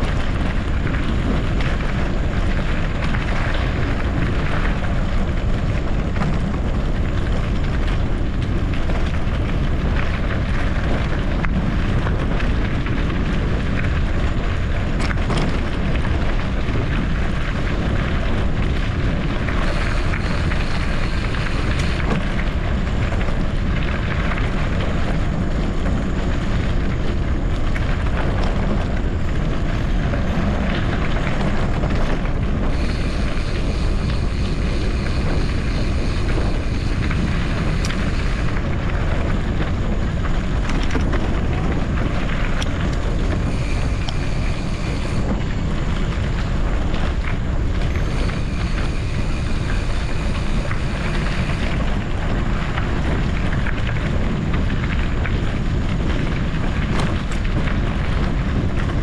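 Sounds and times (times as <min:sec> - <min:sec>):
low rumble of off-road riding: 0:00.0 - 0:59.0
wind buffeting microphone: 0:00.0 - 0:59.0.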